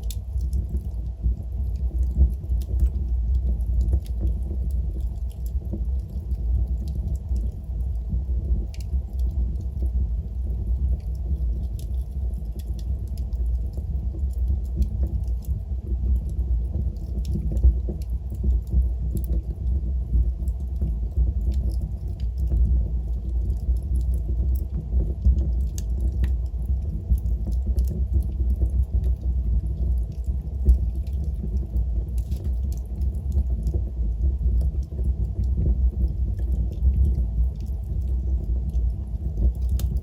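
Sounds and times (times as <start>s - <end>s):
fire crackling and popping: 0.0s - 40.0s
low rumble of flames: 0.0s - 40.0s.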